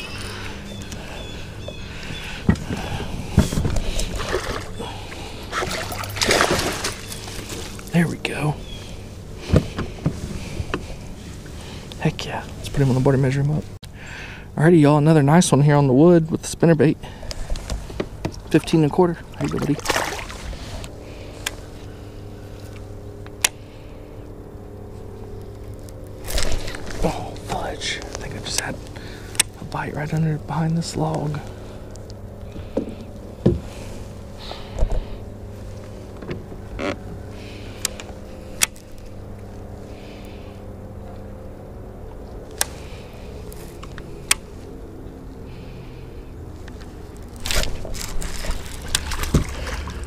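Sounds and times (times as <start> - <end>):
boat motor humming: 0.0 - 50.0.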